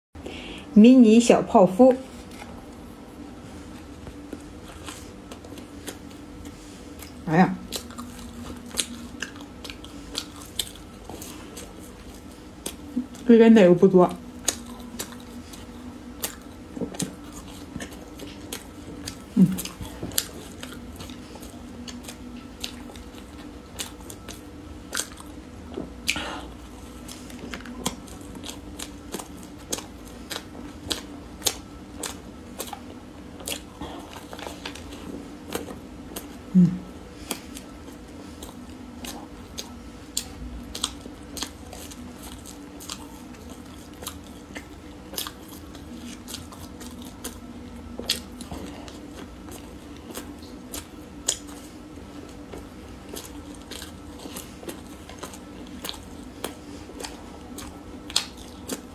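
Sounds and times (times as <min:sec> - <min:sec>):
wet chewing: 0:03.6 - 0:58.9.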